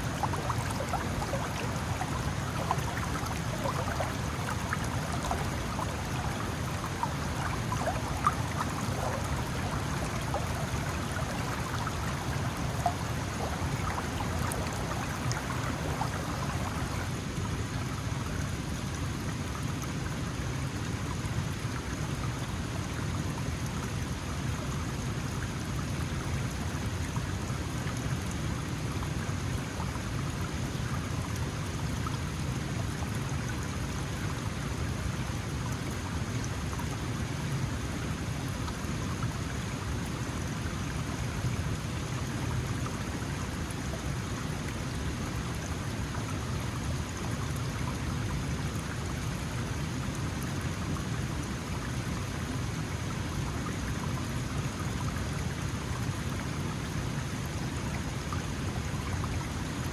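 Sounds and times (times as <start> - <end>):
mountain stream running: 0.0 - 59.9.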